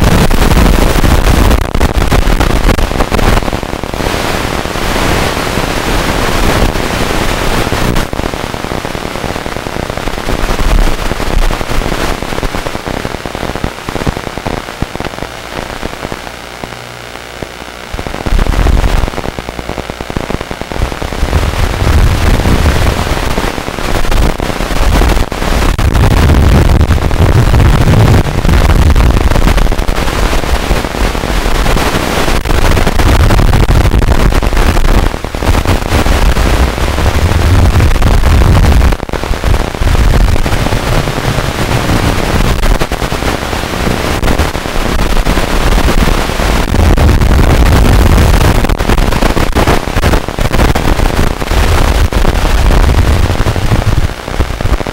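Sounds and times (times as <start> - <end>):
harsh crackling static: 0.0 - 54.9.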